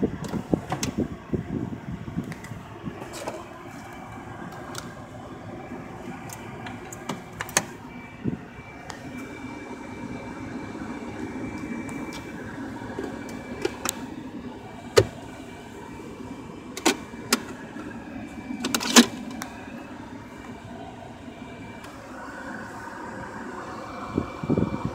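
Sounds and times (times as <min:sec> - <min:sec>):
car cabin hum: 0:00.0 - 0:24.9
faint high whine: 0:03.2 - 0:24.9.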